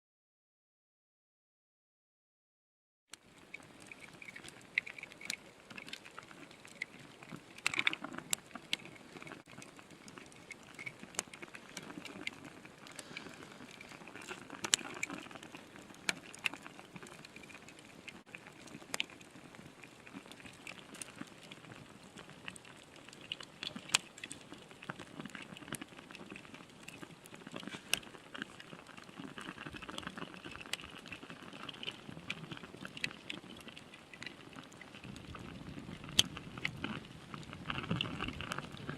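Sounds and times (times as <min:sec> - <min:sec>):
wood fire crackling and popping: 0:03.1 - 0:38.9.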